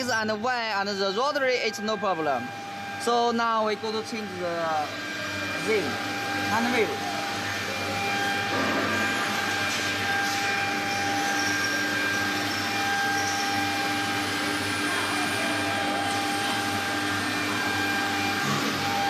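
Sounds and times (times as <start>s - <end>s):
machinery hum and whine: 0.0s - 19.0s.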